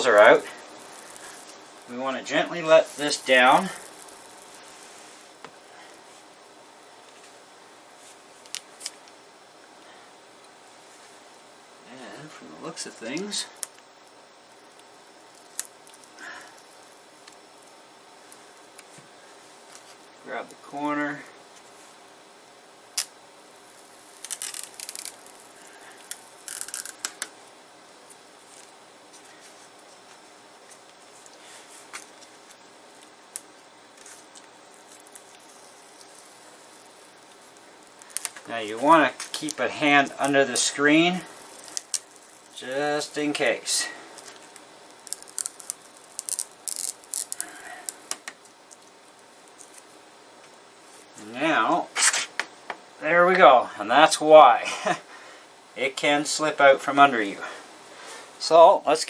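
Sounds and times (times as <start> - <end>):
crackly scraping with ticks: 0.0 - 11.3, 13.0 - 20.6, 21.5 - 51.2.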